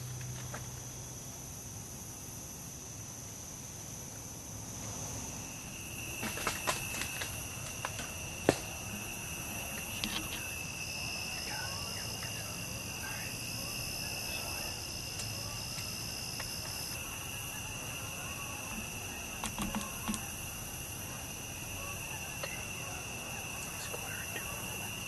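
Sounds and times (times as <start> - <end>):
insects singing: 0.0 - 25.0.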